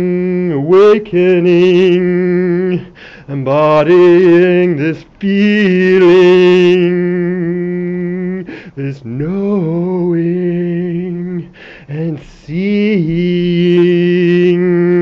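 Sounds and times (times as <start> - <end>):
person chanting wordless tones: 0.0 - 15.0.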